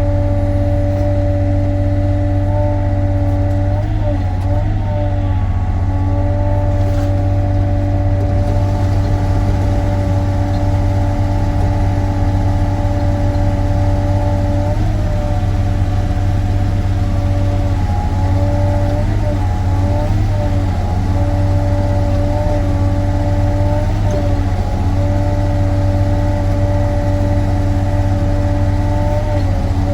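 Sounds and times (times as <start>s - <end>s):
diesel engine drone: 0.0s - 29.9s
hydraulic whine: 0.0s - 29.9s.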